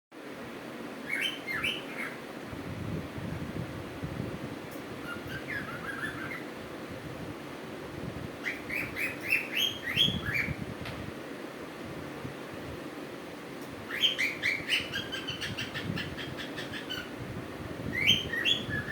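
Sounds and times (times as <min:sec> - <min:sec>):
low background hum: 0:00.2 - 0:18.9.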